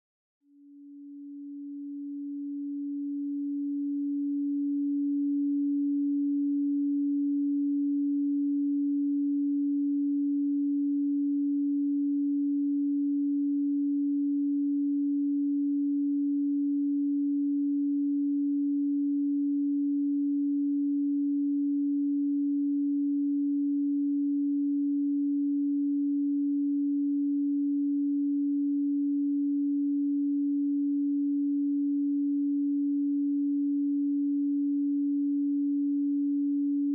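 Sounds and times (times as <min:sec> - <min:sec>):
pure sine tone: 0:00.4 - 0:36.9.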